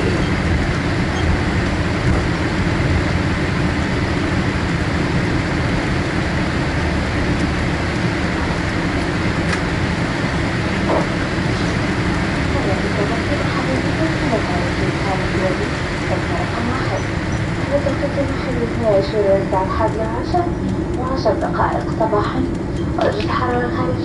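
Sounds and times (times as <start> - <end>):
jet engines running: 0.0 - 24.0
wheels and airframe rumble: 0.0 - 24.0.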